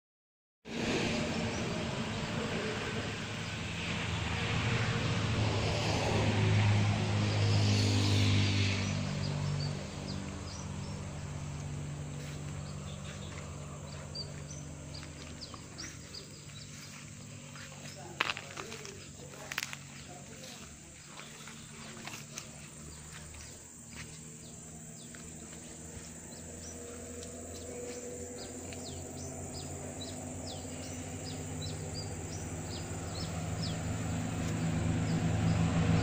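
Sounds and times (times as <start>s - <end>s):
engine humming: 0.7s - 36.0s.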